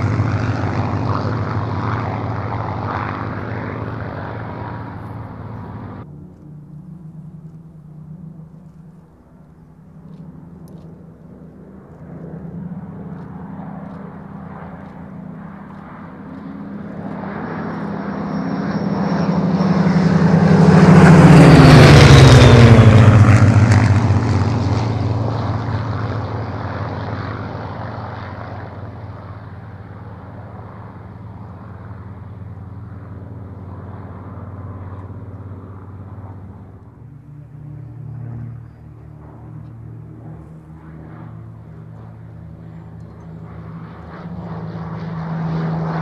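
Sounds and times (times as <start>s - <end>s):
propeller aircraft engines droning: 0.0s - 46.0s.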